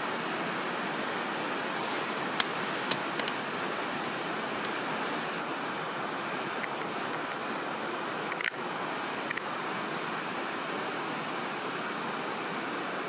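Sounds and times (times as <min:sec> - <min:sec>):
steady rushing noise: 0:00.0 - 0:11.0
campfire crackling: 0:00.1 - 0:13.0.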